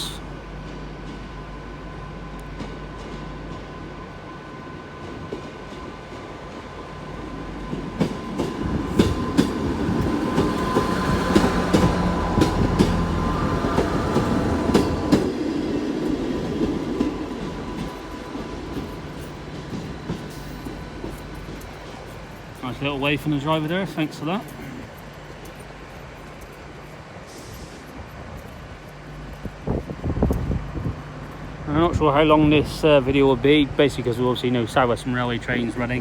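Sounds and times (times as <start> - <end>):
diesel train engines running: 0.0 - 36.0.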